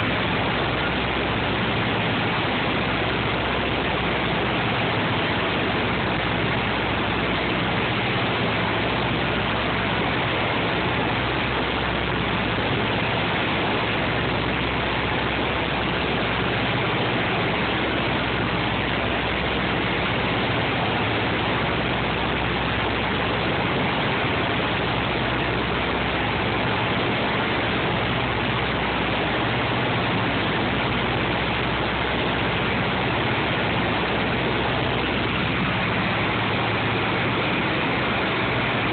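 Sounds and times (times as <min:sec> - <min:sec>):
propeller engines droning: 0:00.0 - 0:38.9.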